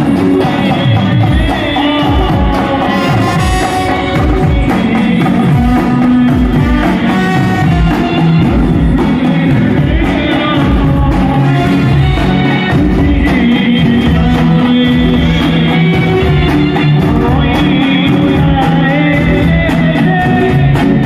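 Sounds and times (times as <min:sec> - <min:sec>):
band music: 0:00.0 - 0:21.0
heavy drum beat: 0:00.0 - 0:21.0
person singing: 0:00.0 - 0:21.0.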